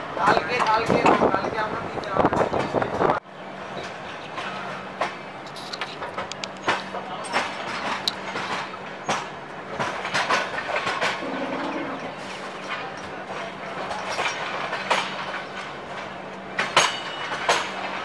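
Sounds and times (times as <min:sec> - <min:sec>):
train running noise: 0:00.0 - 0:18.0
train wheels clattering over rail joints: 0:00.2 - 0:18.0.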